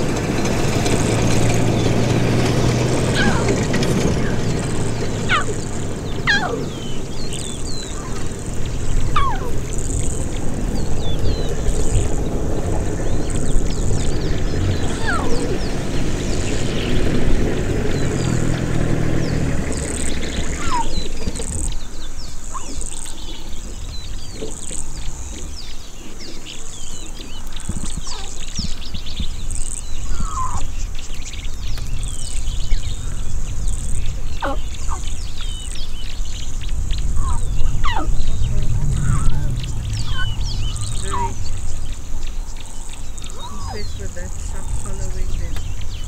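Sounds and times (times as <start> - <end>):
bird falling calls: 0.0 - 46.0
birds chirping: 0.0 - 46.0
low rumble: 0.0 - 46.0.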